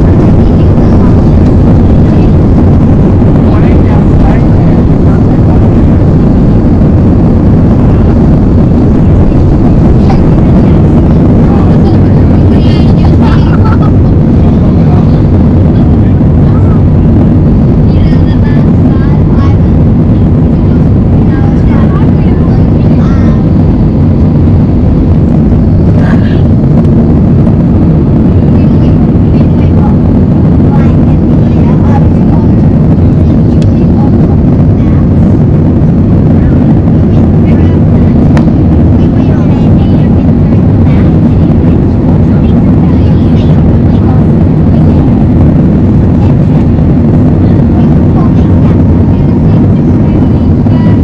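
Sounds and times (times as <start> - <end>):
jet engines roaring: 0.0 - 51.0.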